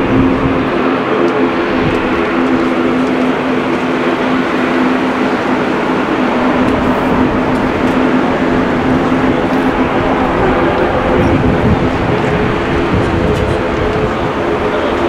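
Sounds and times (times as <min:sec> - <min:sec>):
jet engines rumbling at low thrust: 0:00.0 - 0:15.0.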